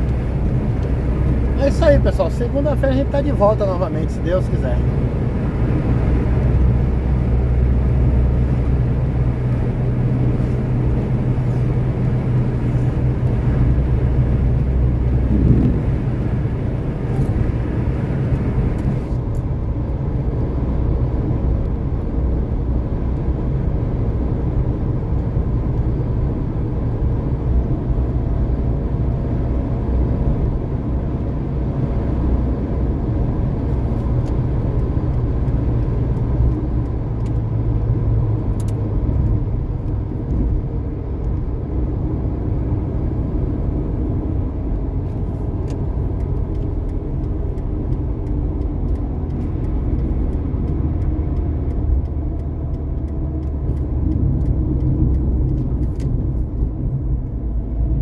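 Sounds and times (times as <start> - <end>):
truck engine and tyre drone: 0.0 - 58.0.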